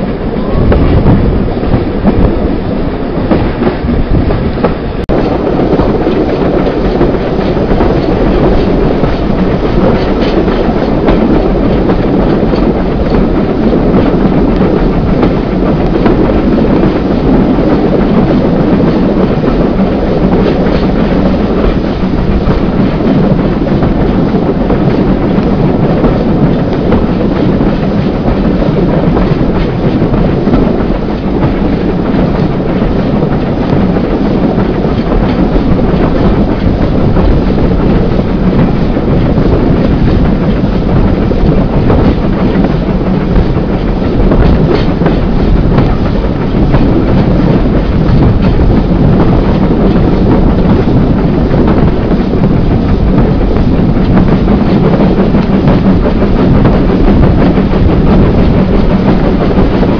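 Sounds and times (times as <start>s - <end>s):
clickety-clack of rail joints: 0.0s - 59.9s
train wheels rumbling: 0.0s - 59.9s.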